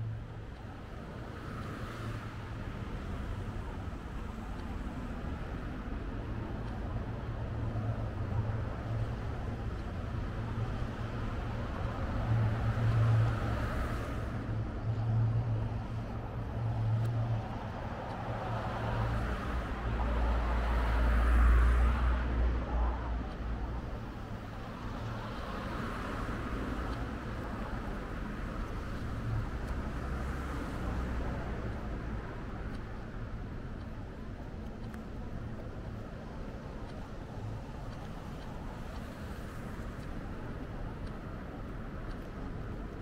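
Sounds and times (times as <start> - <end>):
street traffic: 0.0 - 43.0.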